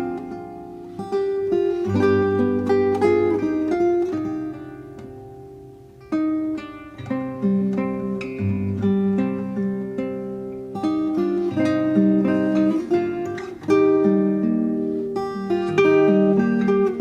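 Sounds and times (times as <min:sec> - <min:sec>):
acoustic guitar plucked chords: 0:00.0 - 0:17.0.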